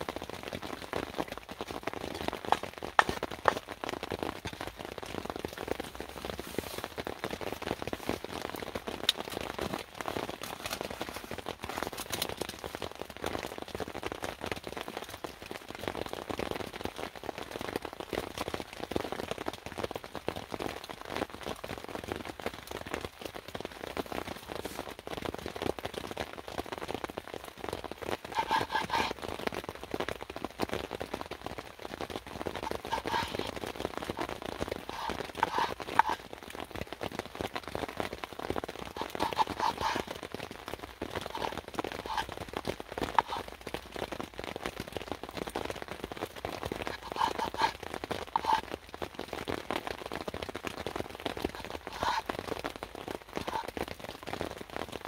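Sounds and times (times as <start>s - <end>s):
rain dripping: 0.0s - 55.0s.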